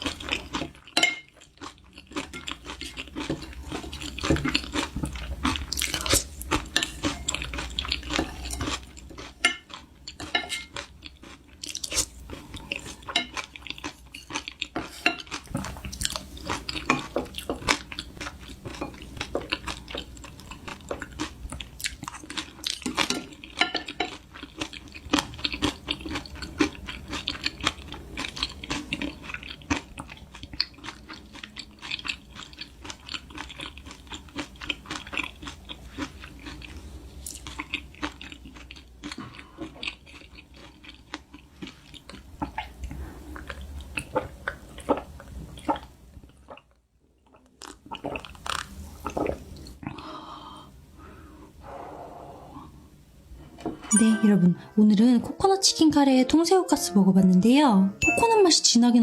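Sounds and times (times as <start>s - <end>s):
chewing and crunching food: 0.0s - 50.2s.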